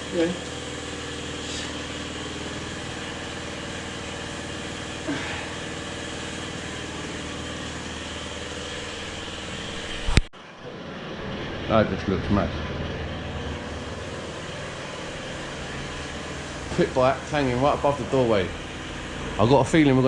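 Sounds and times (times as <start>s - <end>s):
small engine idling: 0.0s - 10.2s, 10.9s - 20.0s.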